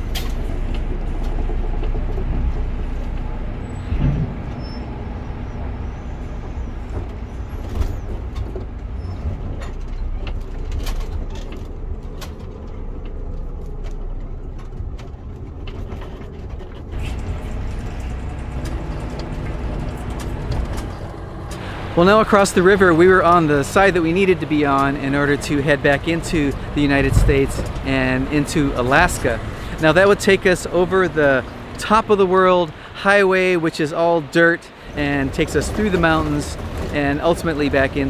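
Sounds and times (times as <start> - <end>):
knocks and rattles: 0.0 - 32.2
engine low rumble: 0.0 - 38.0.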